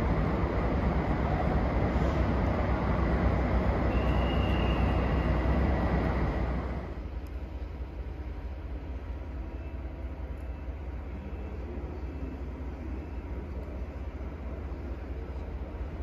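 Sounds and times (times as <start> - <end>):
faint high whine: 0.0 - 16.0
train wheels rumbling on rails: 0.0 - 16.0.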